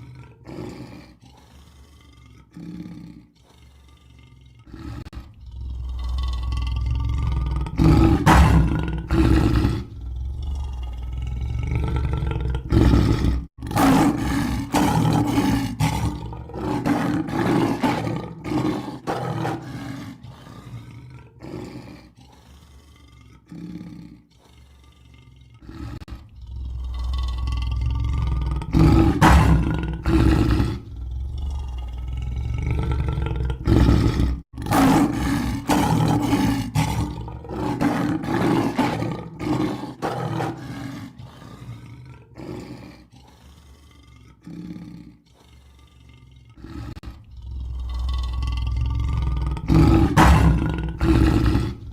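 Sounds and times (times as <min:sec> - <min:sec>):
lion roaring: 0:00.0 - 0:51.9.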